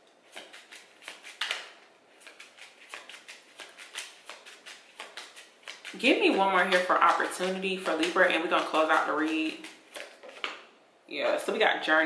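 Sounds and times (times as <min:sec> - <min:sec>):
cards being shuffled: 0:00.2 - 0:10.7.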